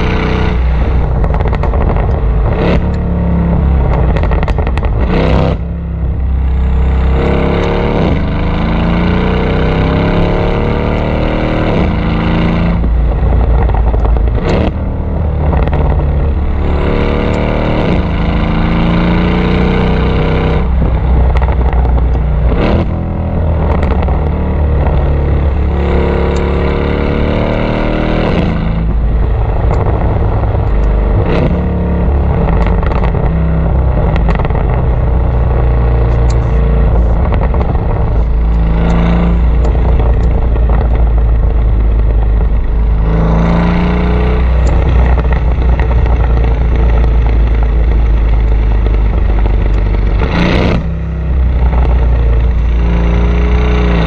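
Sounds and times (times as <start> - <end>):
car exhaust accelerating: 0.0 - 54.0
exhaust pops and crackles: 0.0 - 54.0.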